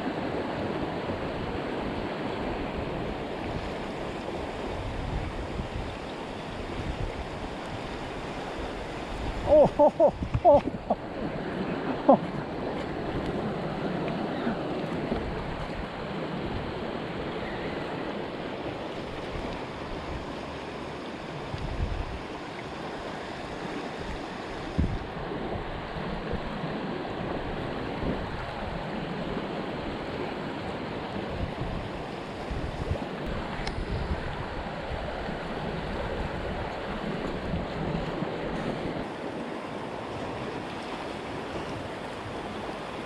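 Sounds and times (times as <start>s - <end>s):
creek rapids rushing: 0.0s - 43.0s
wind rumbling on microphone: 0.0s - 43.0s.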